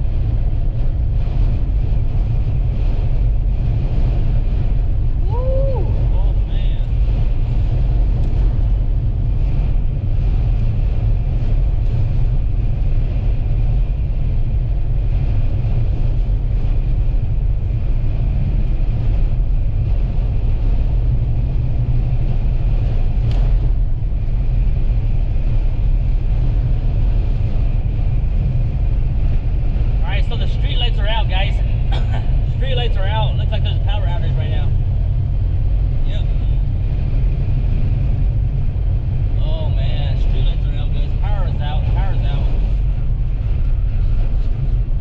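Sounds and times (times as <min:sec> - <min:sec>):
vehicle driving at highway speed: 0:00.0 - 0:45.0.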